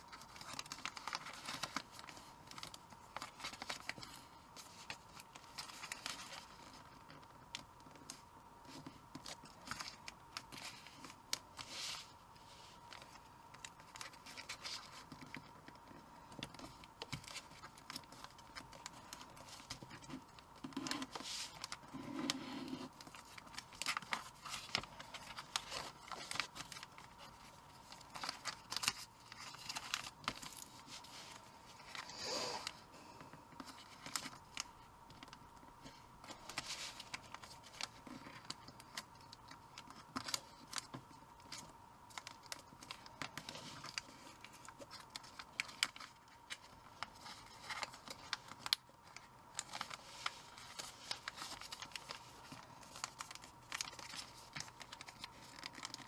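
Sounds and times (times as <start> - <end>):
paper being folded and creased: 0.0 - 32.8, 33.5 - 56.0.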